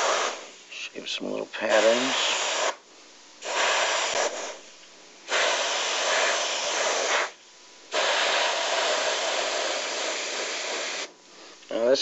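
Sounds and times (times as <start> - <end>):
airbrush spraying hiss: 0.0 - 0.7, 1.6 - 2.8, 3.4 - 11.5.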